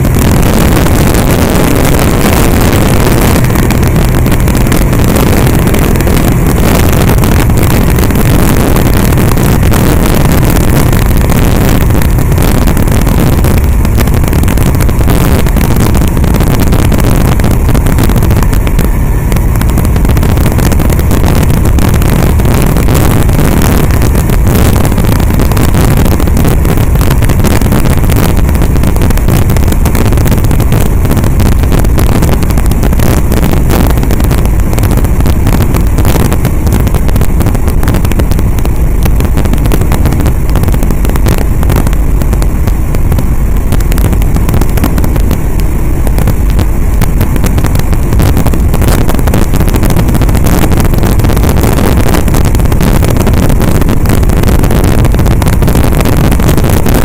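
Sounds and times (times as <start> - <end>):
light aircraft engine and propeller: 0.0 - 57.0
wind rushing on microphone: 0.0 - 57.0.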